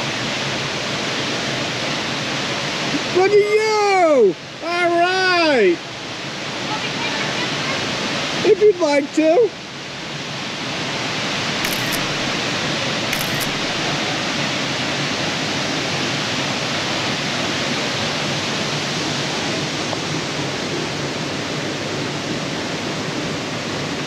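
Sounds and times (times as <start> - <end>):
stream and waterfall rushing: 0.0 - 11.6, 13.7 - 24.0.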